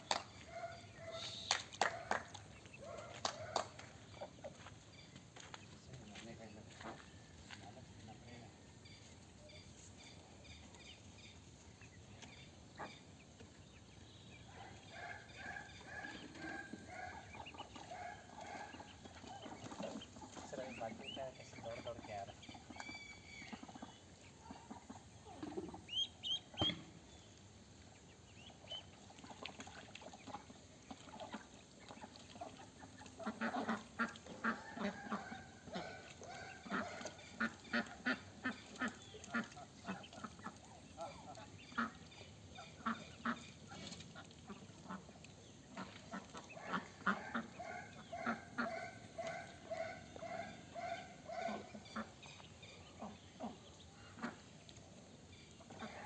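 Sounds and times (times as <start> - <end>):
ducks quacking: 0.1 - 4.7, 5.9 - 8.4, 14.5 - 26.8, 28.3 - 54.6, 55.6 - 56.0.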